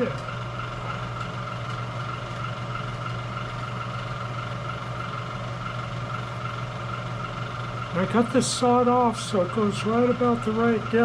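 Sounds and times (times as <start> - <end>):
machine hum with whine: 0.0 - 11.0.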